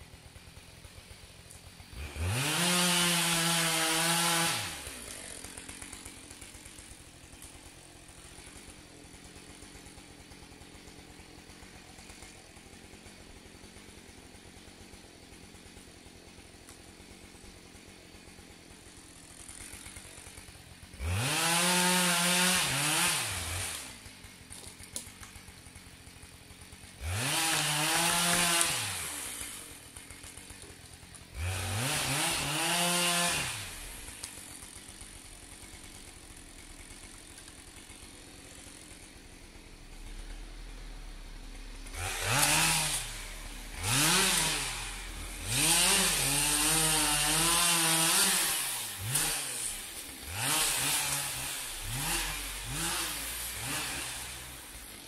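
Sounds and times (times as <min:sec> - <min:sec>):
chainsaw idling and revving: 0:00.0 - 0:55.0.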